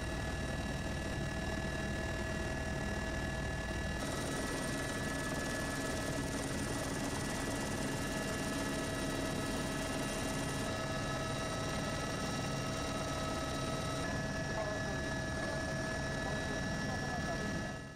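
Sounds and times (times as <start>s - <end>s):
constant whining tones: 0.0s - 17.9s
helicopter rotor and engine drone: 0.0s - 17.9s.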